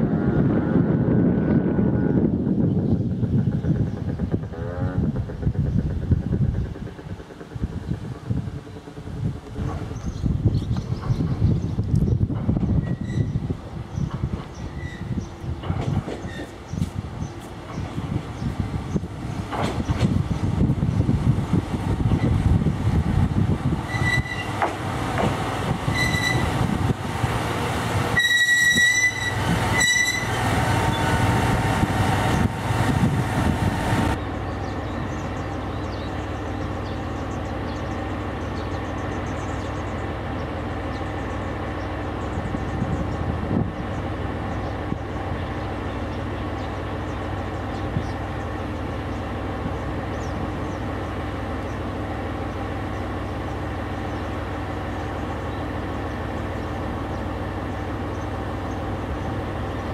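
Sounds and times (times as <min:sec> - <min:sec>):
diesel railcar engine: 0:00.0 - 0:59.9.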